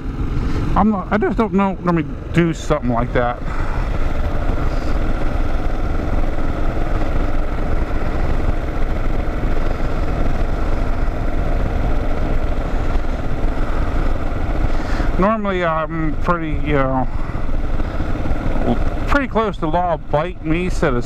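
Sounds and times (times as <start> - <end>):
motorcycle engine cruising: 0.0 - 21.0
wind and road rush: 0.0 - 21.0.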